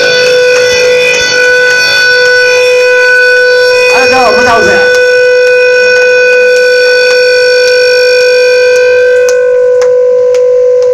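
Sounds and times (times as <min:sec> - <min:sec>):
guitar amplifier feedback: 0:00.0 - 0:10.9.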